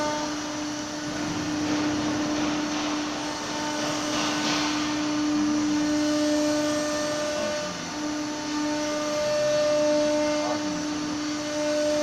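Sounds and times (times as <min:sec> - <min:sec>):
router spindle whine: 0:00.0 - 0:12.0.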